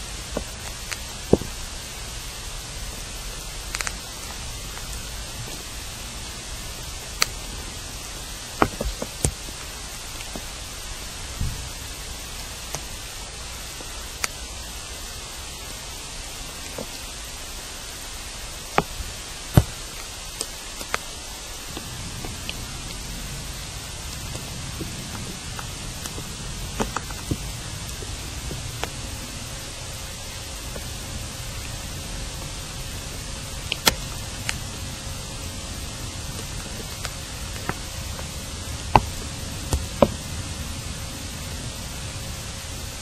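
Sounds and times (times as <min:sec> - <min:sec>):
steady microphone hiss: 0:00.0 - 0:43.0.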